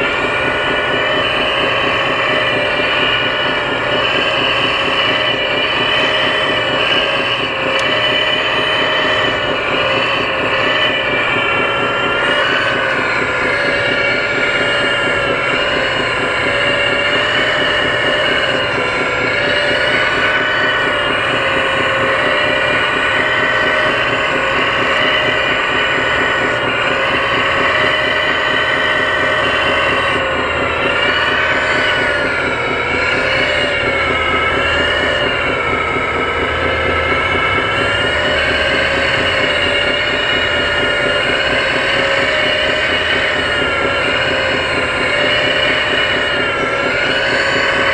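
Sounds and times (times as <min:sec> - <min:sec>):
toy excavator mechanical whine: 0:00.0 - 0:47.9.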